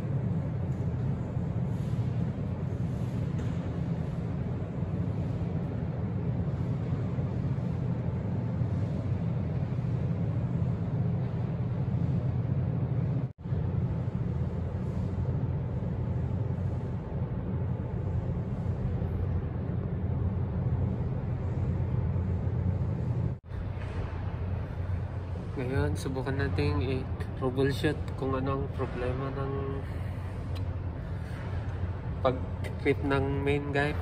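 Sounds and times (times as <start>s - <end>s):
car park rumble and hum: 0.0s - 34.0s.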